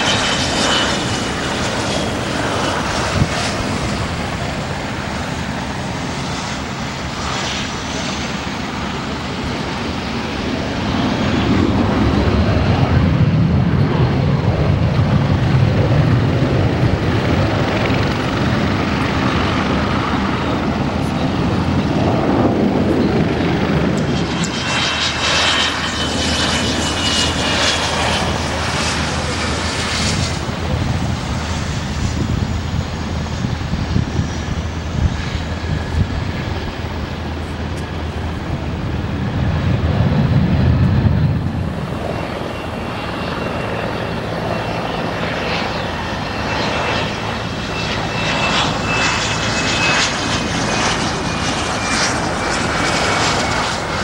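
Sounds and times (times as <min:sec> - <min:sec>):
jet turbine whine: 0:00.0 - 0:54.0
low jet engine rumble: 0:00.0 - 0:54.0.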